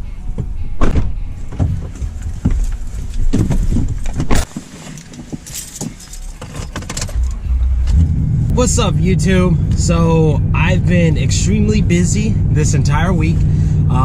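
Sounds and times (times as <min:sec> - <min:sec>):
vehicle low rumble: 0:00.0 - 0:14.0.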